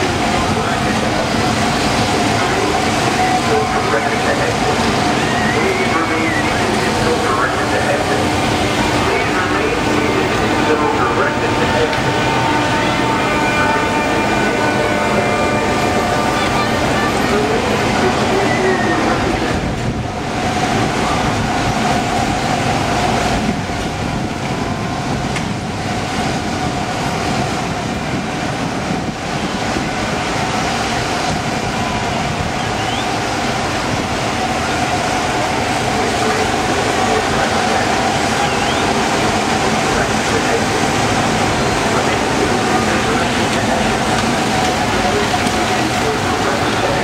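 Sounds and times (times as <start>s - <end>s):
constant whine: 0.0s - 47.0s.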